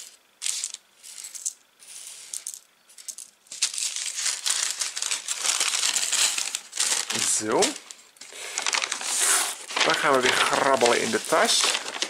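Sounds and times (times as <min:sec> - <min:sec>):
packet crinkling: 0:02.2 - 0:12.0.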